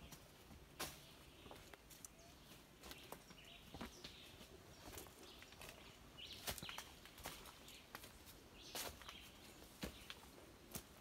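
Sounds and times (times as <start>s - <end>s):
footsteps on dry leaves and rock: 0.0s - 11.0s.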